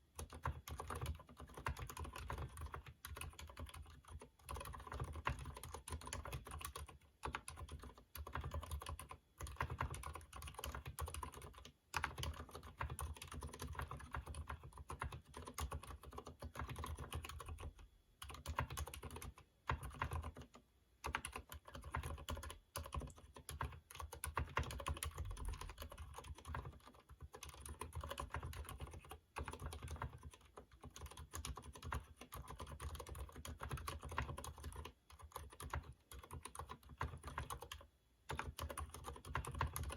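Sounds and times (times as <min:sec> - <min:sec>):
mechanical keyboard typing: 0:00.1 - 0:39.9.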